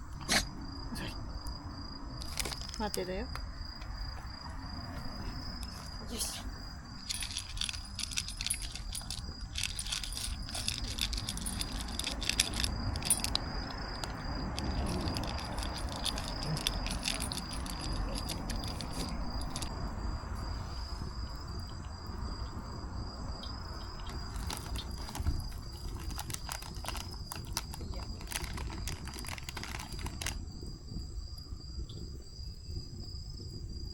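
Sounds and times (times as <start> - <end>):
high-pitched insect trill: 0.0 - 33.9.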